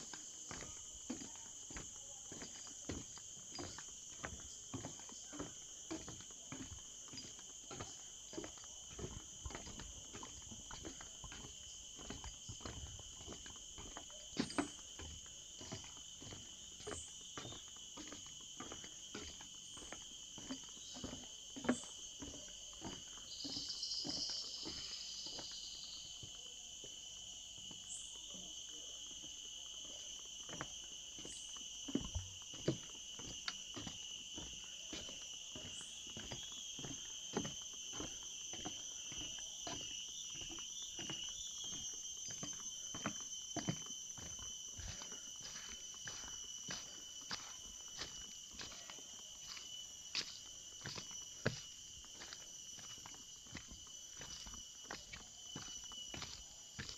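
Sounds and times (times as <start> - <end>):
footsteps walking: 0.0 - 25.5, 30.6 - 56.9
high-pitched insect chorus: 0.0 - 56.9.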